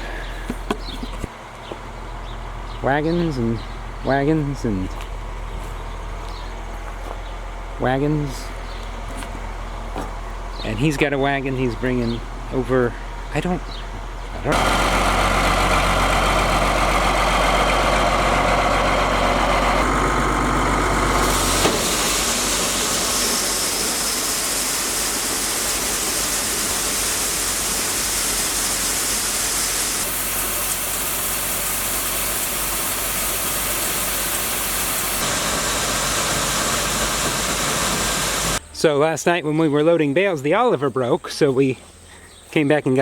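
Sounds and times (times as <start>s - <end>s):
engine running with low hum: 0.0s - 38.8s.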